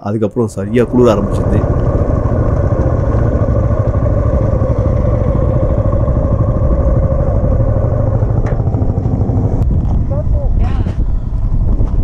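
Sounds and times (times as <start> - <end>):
motorcycle engine rumbling: 0.3 - 12.0.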